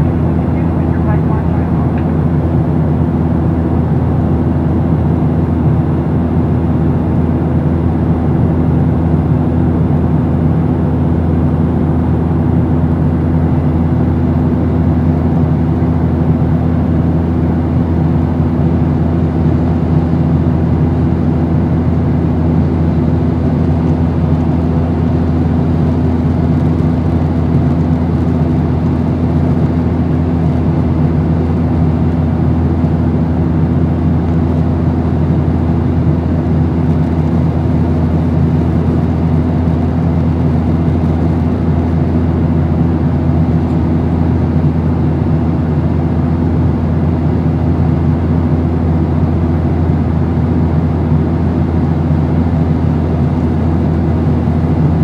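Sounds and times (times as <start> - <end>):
jet airliner cabin drone: 0.0 - 55.0.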